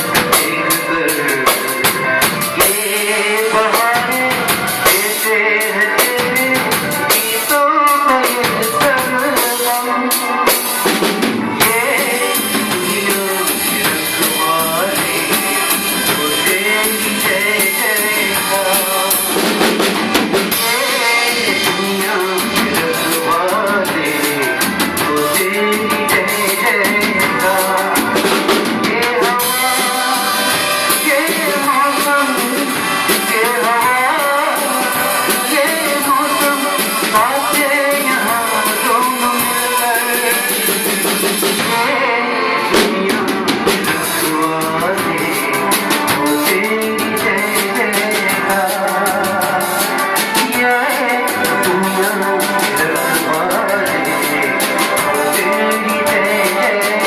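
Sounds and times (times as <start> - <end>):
acoustic guitar: 0.0 - 57.0
drum kit with busy cymbals: 0.0 - 57.0.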